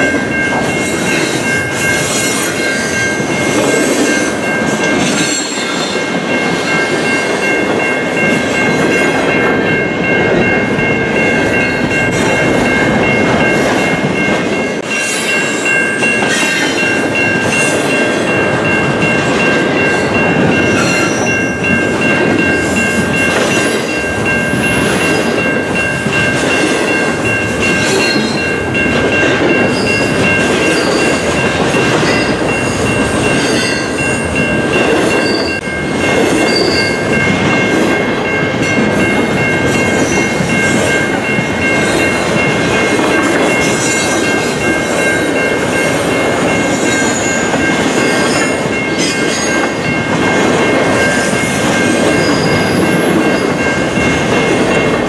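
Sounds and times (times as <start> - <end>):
train wheels clattering on rail: 0.0 - 55.0.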